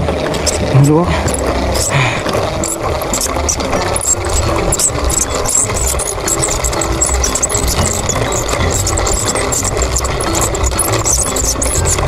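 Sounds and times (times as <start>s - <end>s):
reel gears clicking rapidly: 0.0s - 12.0s.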